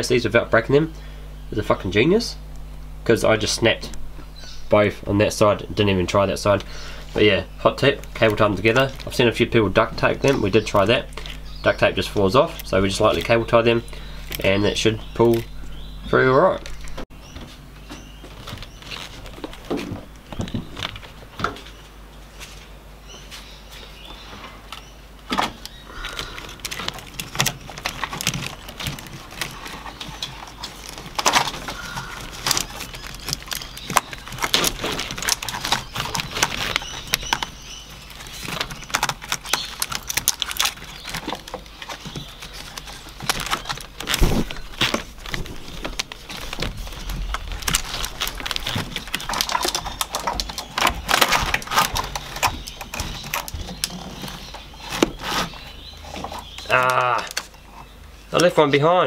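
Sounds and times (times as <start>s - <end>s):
wires rustling and clicking: 1.6s - 22.7s, 24.6s - 58.6s.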